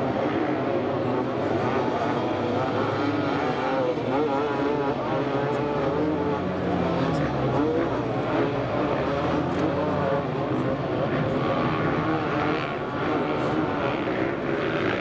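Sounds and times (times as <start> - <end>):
dirt bike engines revving: 0.0 - 15.0
people's voices: 0.0 - 15.0.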